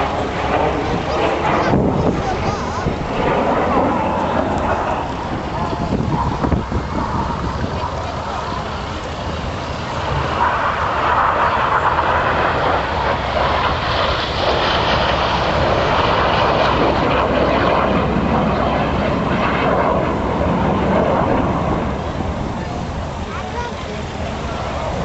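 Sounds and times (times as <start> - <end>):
jet aircraft roar: 0.0 - 25.0.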